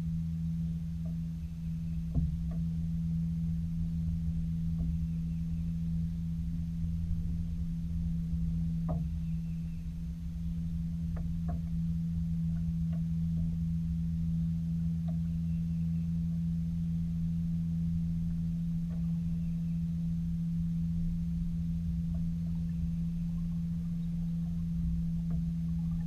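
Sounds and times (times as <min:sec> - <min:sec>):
deep rumble: 0:00.0 - 0:26.0
low-pitched hum: 0:00.0 - 0:26.0.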